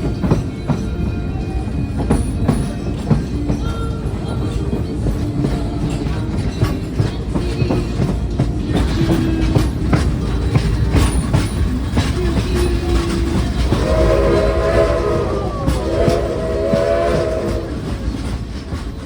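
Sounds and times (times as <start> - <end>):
train cars rumbling on track: 0.0 - 19.0
wheels clattering on rails: 0.0 - 19.0.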